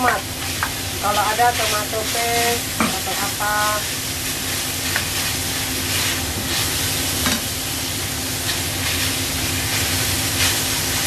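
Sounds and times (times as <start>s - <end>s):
meat sizzling in a wok: 0.0s - 11.0s.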